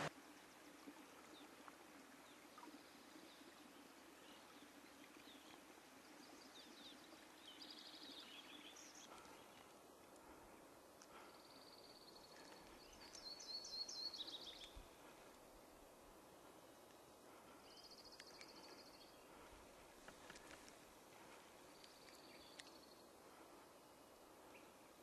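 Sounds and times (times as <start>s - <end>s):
faint background hiss: 0.0s - 25.0s.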